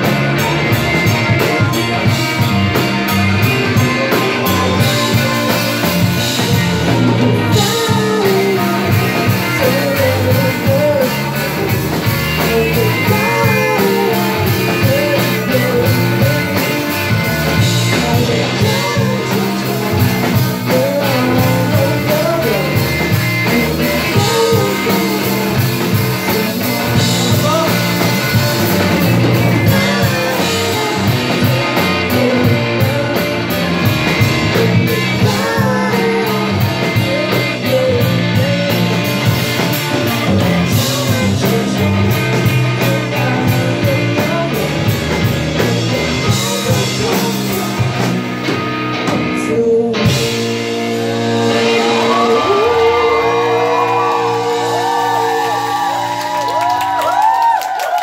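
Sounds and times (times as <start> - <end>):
person singing: 0.0 - 48.2, 49.1 - 58.0
bass guitar: 0.0 - 58.0
drum kit: 0.0 - 58.0
electric guitars: 0.0 - 58.0.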